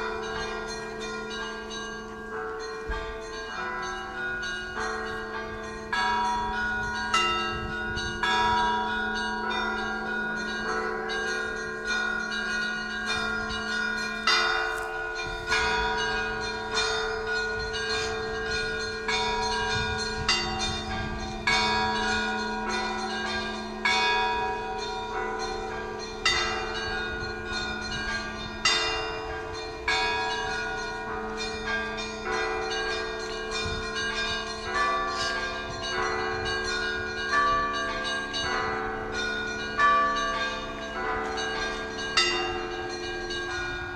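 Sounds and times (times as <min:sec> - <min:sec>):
small church bells ringing: 0:00.0 - 0:43.9.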